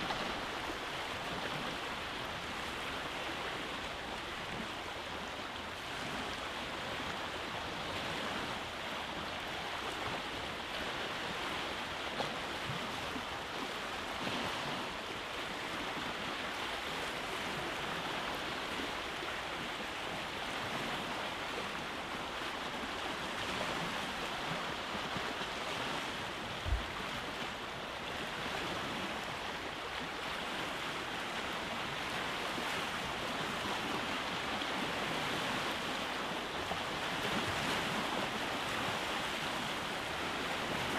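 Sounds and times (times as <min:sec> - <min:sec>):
waves breaking on rocky beach: 0:00.0 - 0:40.9.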